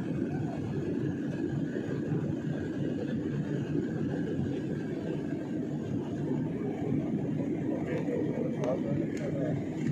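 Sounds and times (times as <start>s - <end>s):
airliner cabin engine drone: 0.0s - 9.9s.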